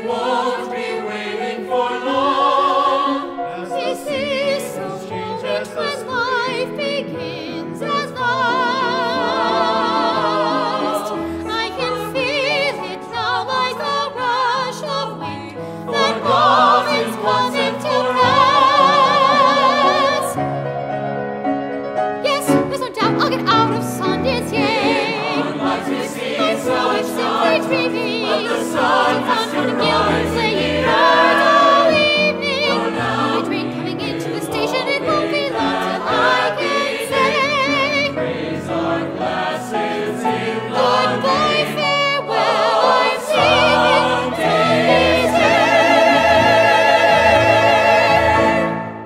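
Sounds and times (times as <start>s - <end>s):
ensemble singing in chorus: 0.0s - 20.4s, 24.0s - 49.0s.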